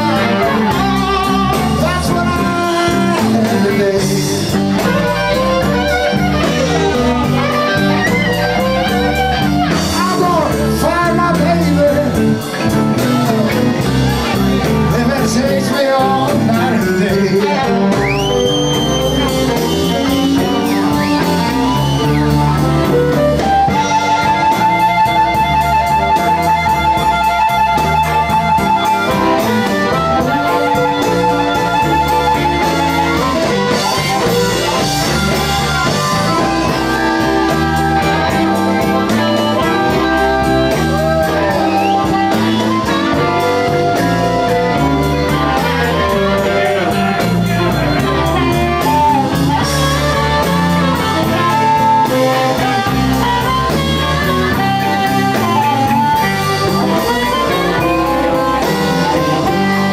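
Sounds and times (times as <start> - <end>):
amplified harmonica bent notes: 0.0 - 15.0, 17.1 - 59.9
bass: 0.0 - 59.9
drums: 0.0 - 59.9
electric guitar: 0.0 - 59.9.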